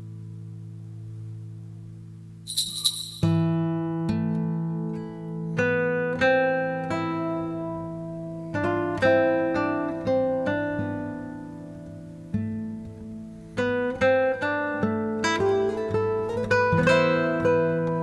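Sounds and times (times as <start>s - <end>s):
acoustic guitar playing: 3.2s - 18.0s.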